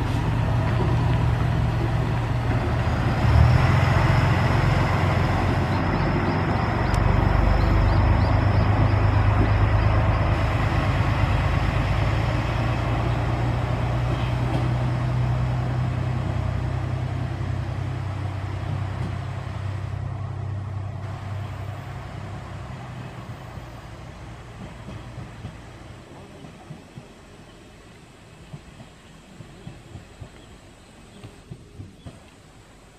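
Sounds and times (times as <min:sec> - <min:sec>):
diesel railcar engine drone: 0:00.0 - 0:32.9.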